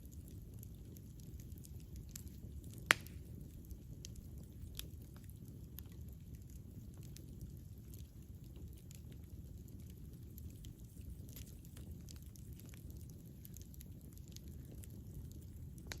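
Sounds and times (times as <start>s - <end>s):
flames burning: 0.0s - 16.0s
light crackles: 0.0s - 16.0s.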